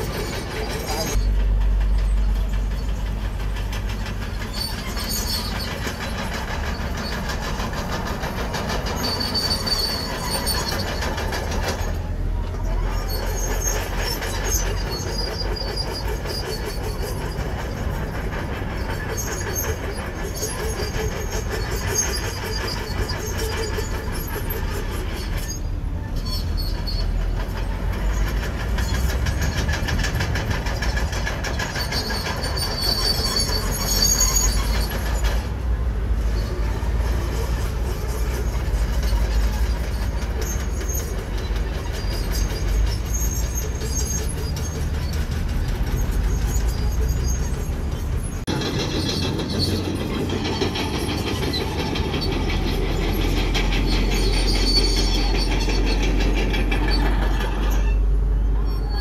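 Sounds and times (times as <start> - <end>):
bulldozer diesel engine rumbling: 0.0 - 59.0
steel tracks clanking and squealing: 0.0 - 59.0.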